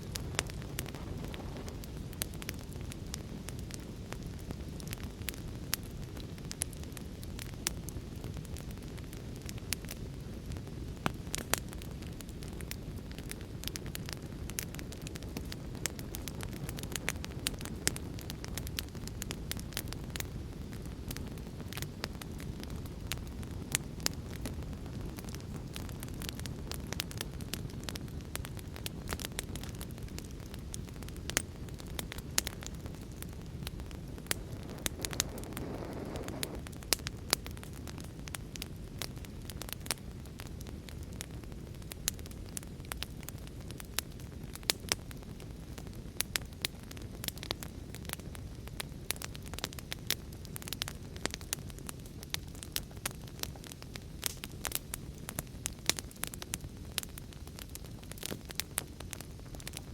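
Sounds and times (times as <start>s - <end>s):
fire hiss: 0.0s - 59.9s
fire pops and snaps: 0.0s - 59.9s
flames rumbling: 0.0s - 59.9s.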